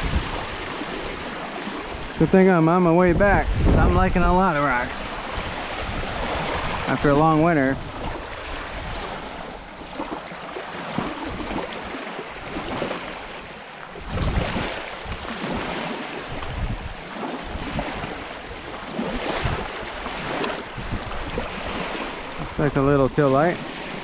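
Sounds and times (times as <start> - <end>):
waves washing onto rocky shore: 0.0 - 24.0
wind buffeting microphone: 0.0 - 24.0.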